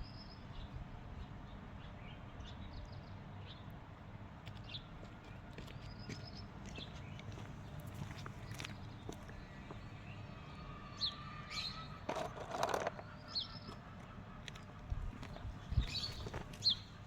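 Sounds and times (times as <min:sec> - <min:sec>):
garden birds chirping: 0:00.0 - 0:03.8, 0:04.5 - 0:17.0.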